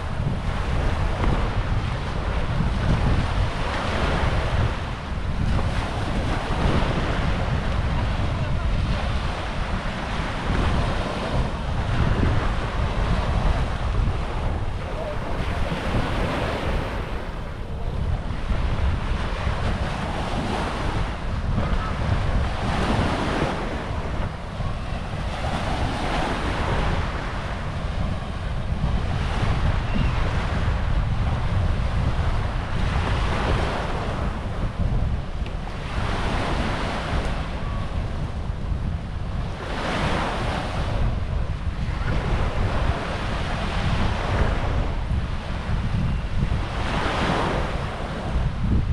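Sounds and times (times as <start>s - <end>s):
small waves washing onto sand: 0.0s - 48.9s
wind buffeting microphone: 0.0s - 48.9s.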